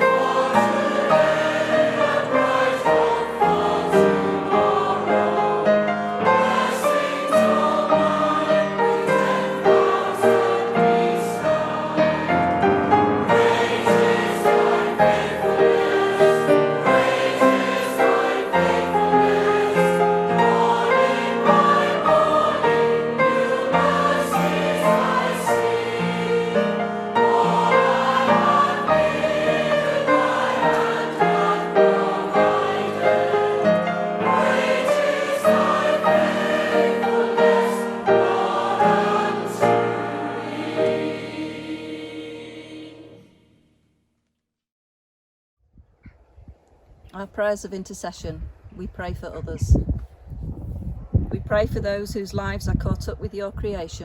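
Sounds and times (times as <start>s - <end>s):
choir singing a hymn: 0.0s - 43.6s.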